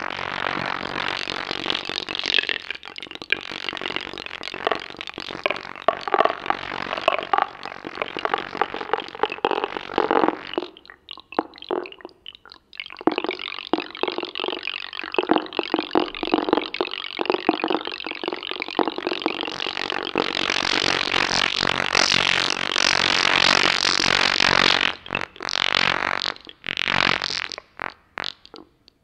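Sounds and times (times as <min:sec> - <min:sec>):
experimental electronic music: 0:00.0 - 0:29.0.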